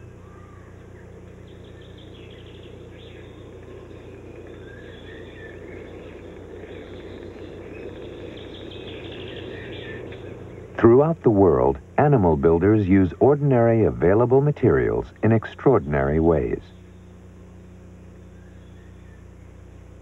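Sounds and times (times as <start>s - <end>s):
small birds chirping: 0.0s - 20.0s
steady low hum and hiss: 0.0s - 20.0s.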